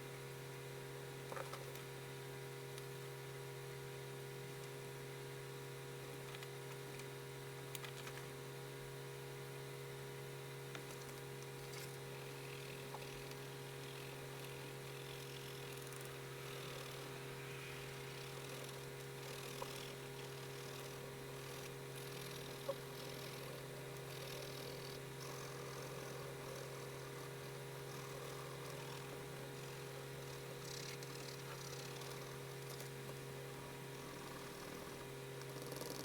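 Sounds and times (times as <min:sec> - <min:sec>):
electrical hum and hiss: 0:00.0 - 0:36.0.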